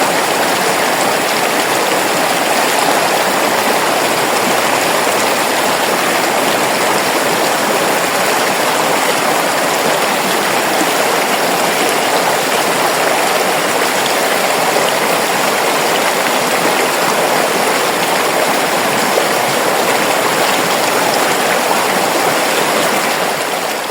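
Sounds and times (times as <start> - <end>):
river water flowing: 0.0 - 23.9.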